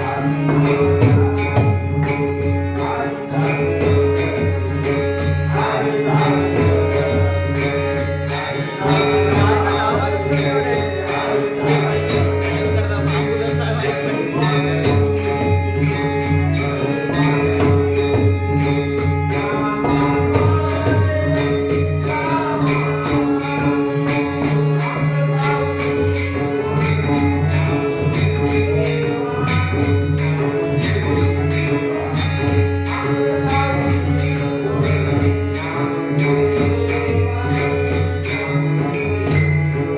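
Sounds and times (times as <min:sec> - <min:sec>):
held drone: 0:00.0 - 0:39.9
jingling metal percussion: 0:00.0 - 0:39.9
wavering melody: 0:00.0 - 0:39.9.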